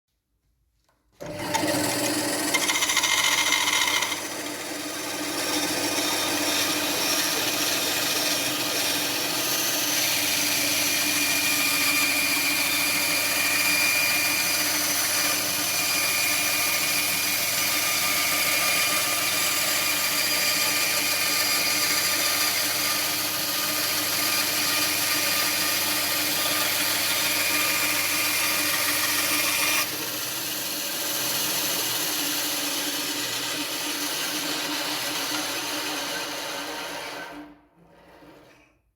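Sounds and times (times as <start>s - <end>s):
band saw cutting wood: 1.2s - 38.6s.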